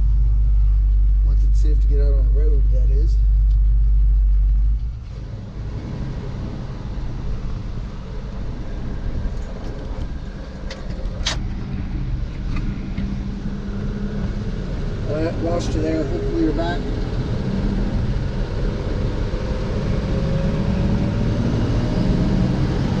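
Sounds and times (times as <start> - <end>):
engine and road noise: 0.0 - 23.0
heavy low rumble: 0.0 - 23.0.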